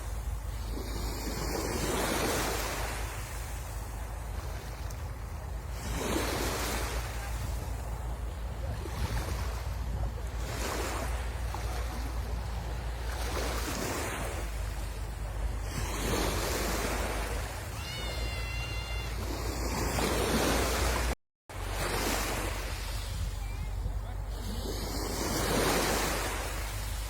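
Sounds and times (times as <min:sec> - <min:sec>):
sea waves breaking on shore: 0:00.0 - 0:27.0
wind rumbling on microphone: 0:00.0 - 0:27.0.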